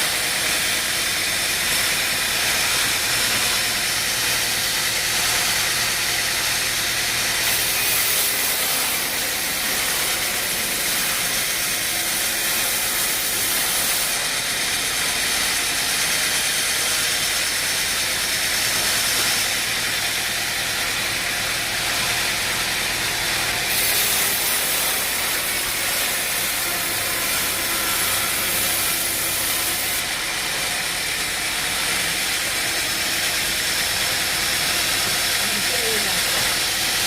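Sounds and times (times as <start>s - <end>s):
woodworking machine hissing: 0.0s - 37.0s.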